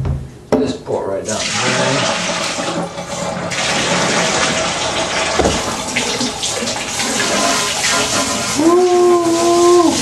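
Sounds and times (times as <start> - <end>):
water running into a sink drain: 1.3 - 10.0.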